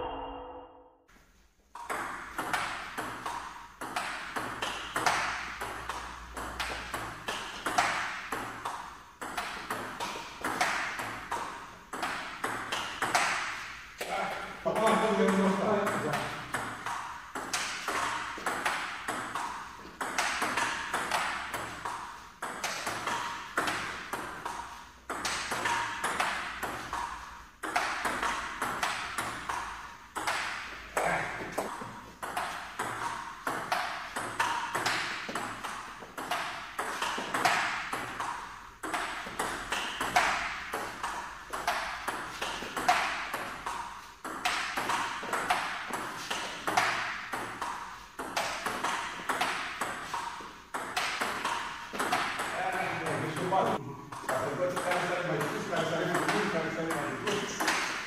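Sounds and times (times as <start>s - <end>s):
ping pong ball on paddles: 1.7s - 58.0s
ball bouncing on table: 1.8s - 14.1s, 14.7s - 58.0s.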